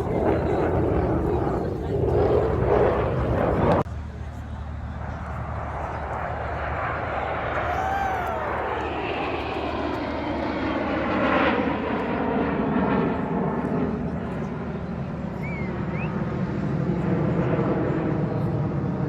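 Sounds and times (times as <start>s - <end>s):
aircraft flying past: 0.0s - 19.0s.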